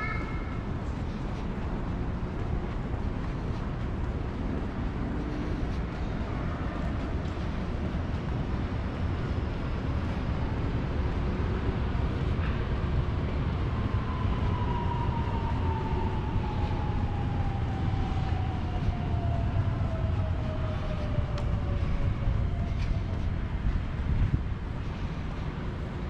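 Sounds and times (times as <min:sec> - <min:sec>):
steady low rumble: 0:00.0 - 0:26.0
train whine: 0:00.0 - 0:26.0.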